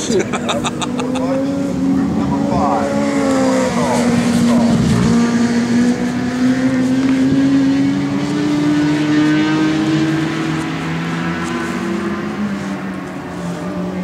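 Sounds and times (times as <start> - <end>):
racing motorcycle engines: 0.0 - 14.0.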